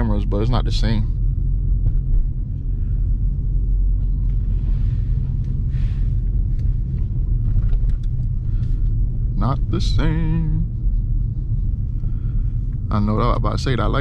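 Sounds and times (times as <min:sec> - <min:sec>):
car engine rumble inside cabin: 0:00.0 - 0:14.0.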